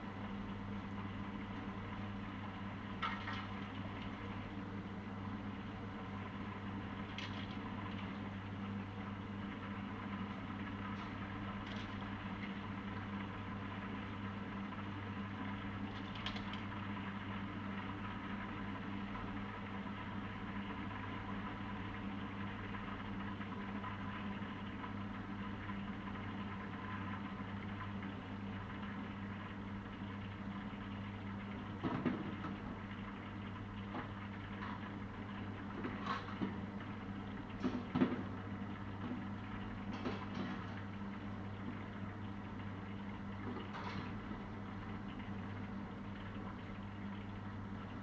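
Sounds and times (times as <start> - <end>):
low mechanical hum: 0.0 - 48.0.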